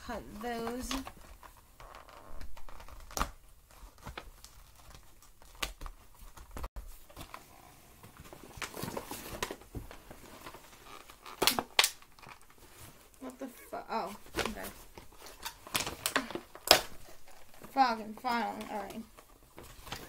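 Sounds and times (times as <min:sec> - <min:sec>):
packaging crinkling and rustling: 0:00.3 - 0:20.0.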